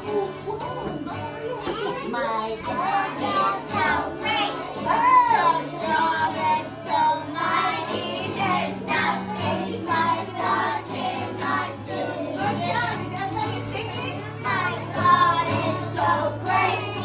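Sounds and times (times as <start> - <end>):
backing music: 0.0 - 17.0
children singing: 1.7 - 17.0.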